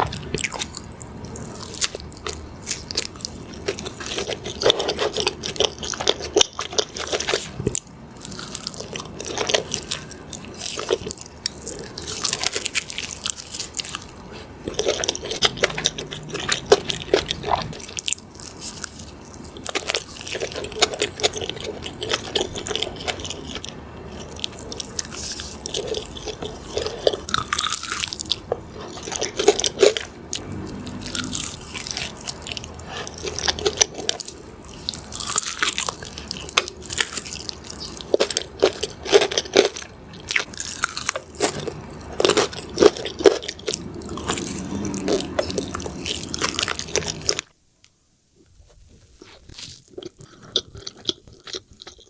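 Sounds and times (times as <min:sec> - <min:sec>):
crunchy bites: 0:00.0 - 0:47.5
wet smacking chewing: 0:08.6 - 0:47.5, 0:49.2 - 0:52.0.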